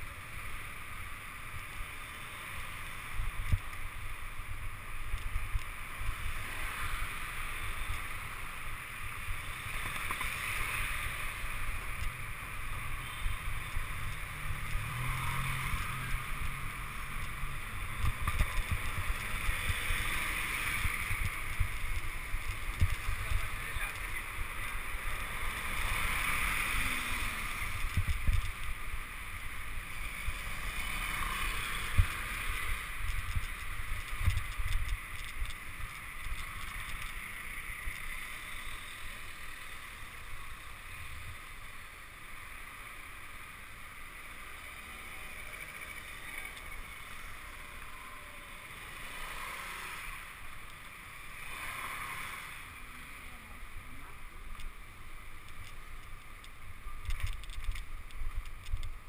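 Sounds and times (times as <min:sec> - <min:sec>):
street noise: 0:00.0 - 0:59.0
bicycle rolling over cobblestones: 0:01.6 - 0:51.7, 0:52.5 - 0:59.0.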